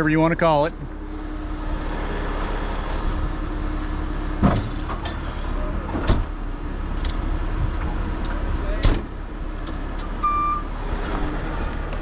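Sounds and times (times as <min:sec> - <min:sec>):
diesel truck engine idling: 0:00.0 - 0:11.6.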